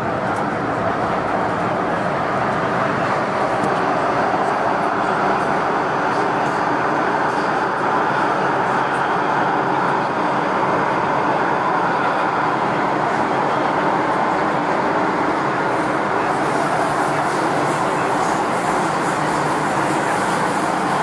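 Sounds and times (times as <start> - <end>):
metro train wheels rumbling on rail: 0.0 - 21.0.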